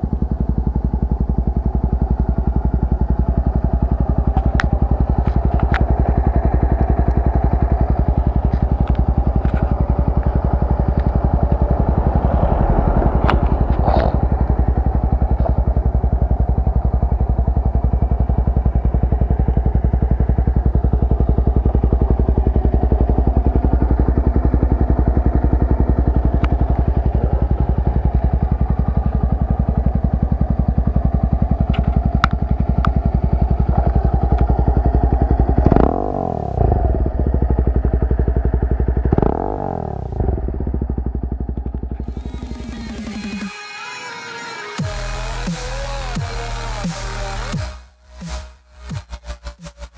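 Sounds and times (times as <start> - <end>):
motorcycle engine idling: 0.0 - 43.5.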